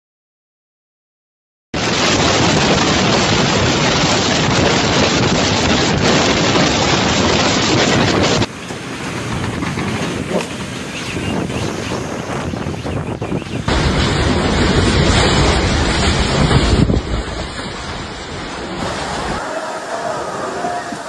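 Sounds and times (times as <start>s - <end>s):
storm rushing noise: 1.8s - 13.0s, 13.6s - 21.0s.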